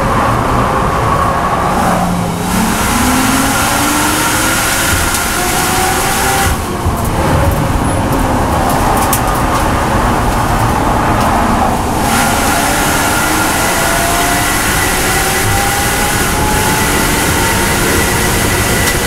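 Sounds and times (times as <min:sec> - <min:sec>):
car engine at full throttle: 0:00.0 - 0:19.0.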